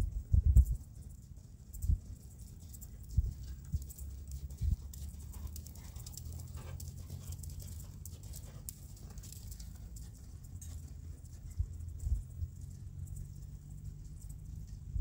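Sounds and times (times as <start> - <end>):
hoofbeats on sand: 0.0 - 14.3
low steady rumble: 0.0 - 15.0.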